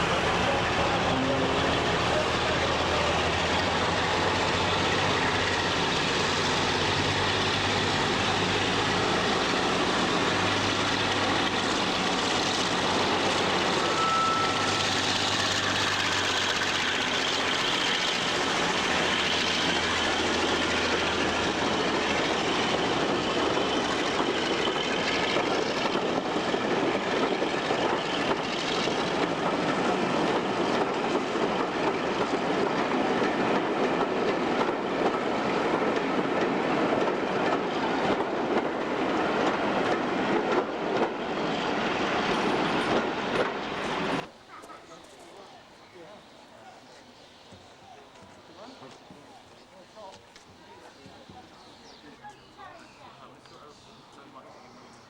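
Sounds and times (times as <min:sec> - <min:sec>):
locomotive engine running: 0:00.0 - 0:44.3
train running along track: 0:00.0 - 0:55.0.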